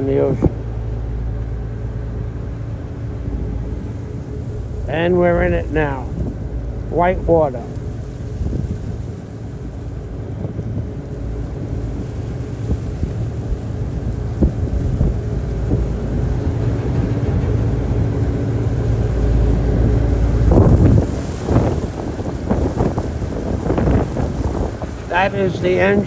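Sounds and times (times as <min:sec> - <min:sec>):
rough sea rushing: 0:00.0 - 0:26.0
ship engines humming: 0:00.0 - 0:26.0
wind buffeting microphone: 0:00.0 - 0:26.0.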